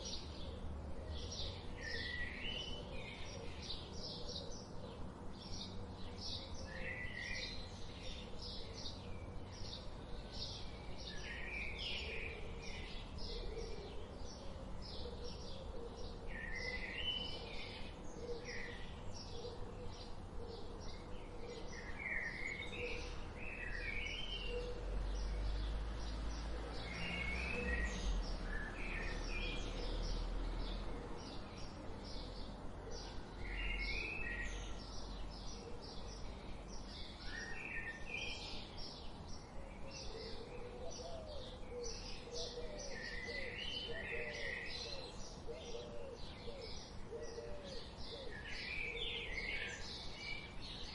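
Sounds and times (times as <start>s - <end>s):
birds chirping and singing: 0.0s - 50.9s.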